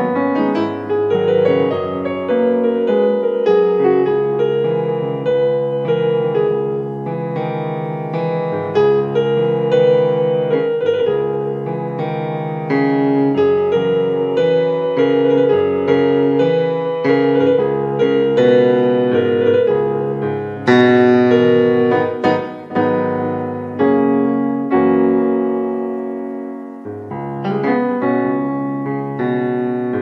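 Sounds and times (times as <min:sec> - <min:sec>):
slow solo piano piece: 0:00.0 - 0:30.0.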